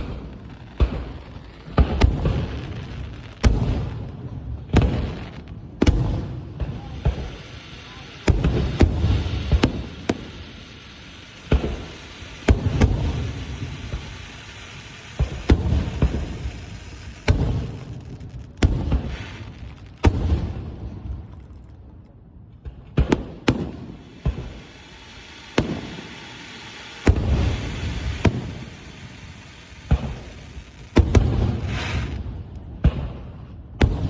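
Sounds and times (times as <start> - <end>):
fireworks bangs with rumbling echo: 0.0 - 34.0.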